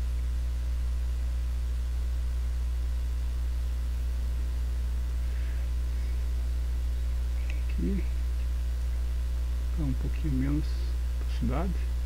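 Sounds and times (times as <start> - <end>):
mains hum: 0.0 - 12.0.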